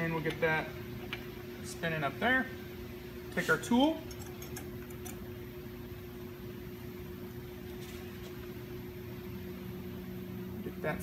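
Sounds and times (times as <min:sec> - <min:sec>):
shop machinery humming: 0:00.0 - 0:11.0.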